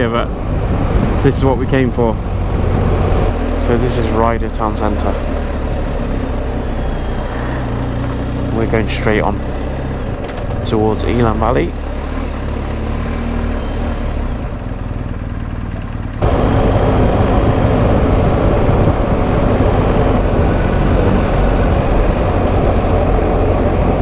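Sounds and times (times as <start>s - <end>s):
wind noise: 0.0s - 11.6s, 16.2s - 24.0s
motorcycle engine running: 0.0s - 24.0s
road noise: 0.0s - 24.0s.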